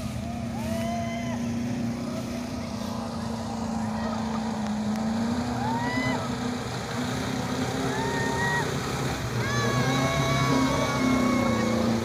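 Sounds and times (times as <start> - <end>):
jeep engines running: 0.0 - 12.0
water splashing: 0.0 - 12.0.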